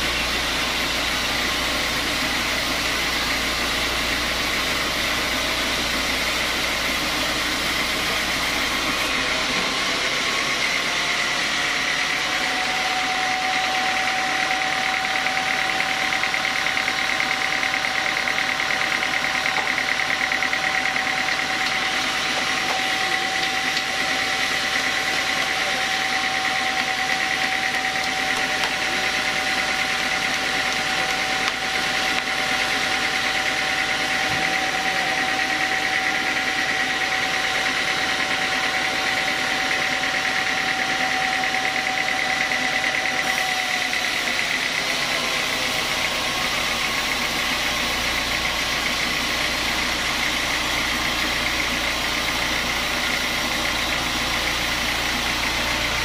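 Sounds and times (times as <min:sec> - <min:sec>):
band sawmill cutting timber: 0:00.0 - 0:56.0.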